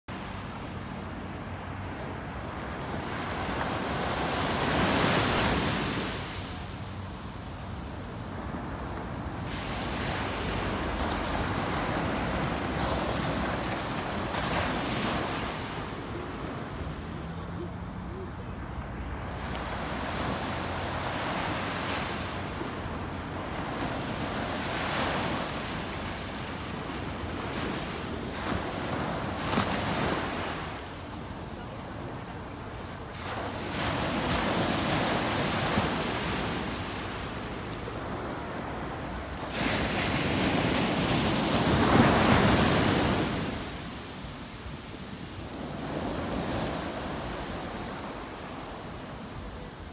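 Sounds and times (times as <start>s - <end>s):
waves washing up beach: 0.2s - 49.9s.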